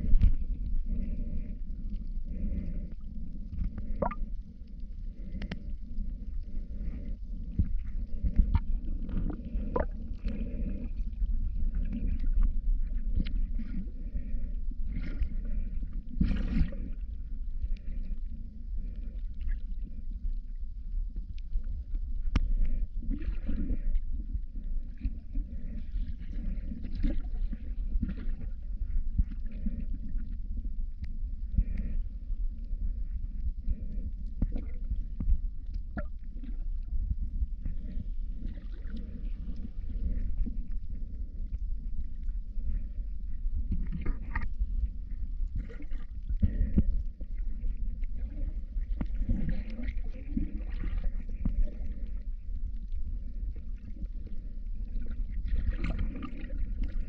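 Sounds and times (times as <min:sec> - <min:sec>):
faint clicks and crackles: 0:00.0 - 0:57.0
muffled underwater rumble: 0:00.0 - 0:57.0.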